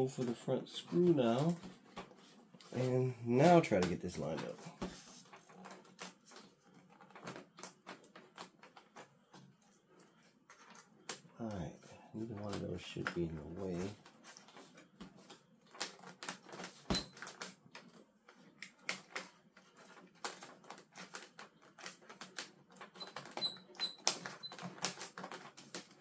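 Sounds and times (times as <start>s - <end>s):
plastic parts clicking and tapping: 3.5s - 11.3s, 12.2s - 26.0s.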